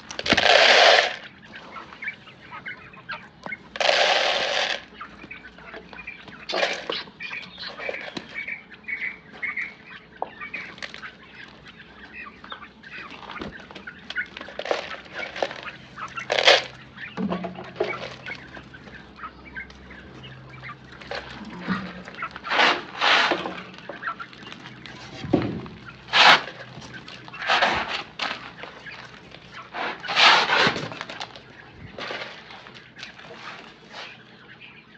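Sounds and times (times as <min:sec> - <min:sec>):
chickens calling loudly: 0:00.0 - 0:34.9
chickens clucking: 0:00.0 - 0:34.9.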